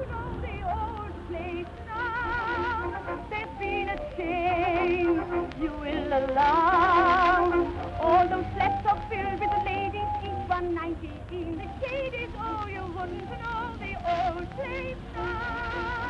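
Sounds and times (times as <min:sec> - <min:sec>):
high voice singing with vibrato: 0:00.0 - 0:16.0
lower musical accompaniment: 0:00.0 - 0:16.0.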